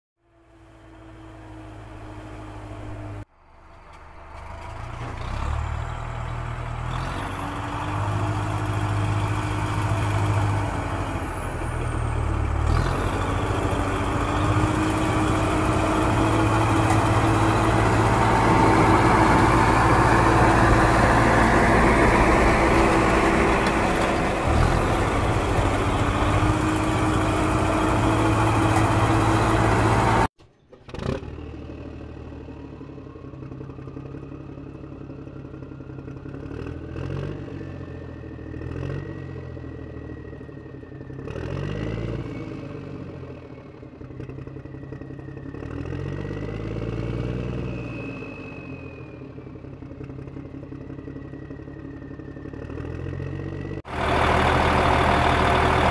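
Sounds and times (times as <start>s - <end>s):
heavy diesel engine idling and revving: 0.3s - 55.9s.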